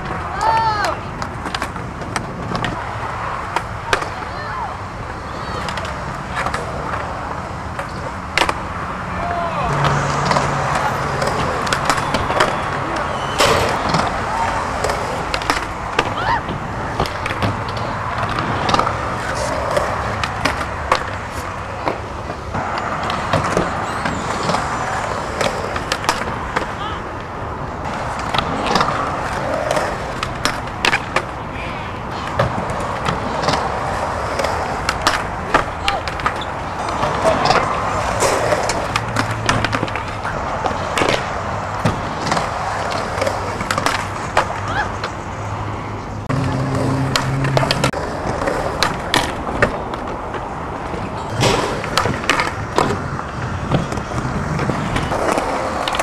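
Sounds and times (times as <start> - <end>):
skateboard clacks: 0.0 - 56.0
skateboard wheels rolling on concrete: 0.0 - 56.0.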